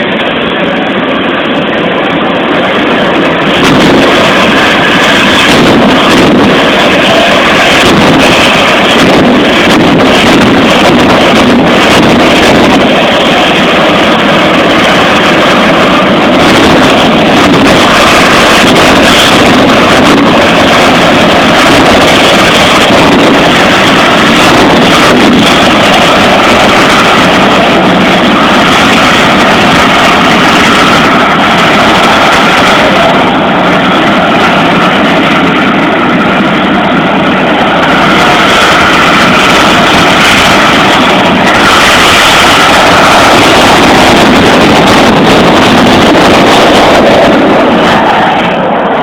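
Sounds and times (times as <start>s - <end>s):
loud distorted motorcycle engines: 0.0s - 49.0s.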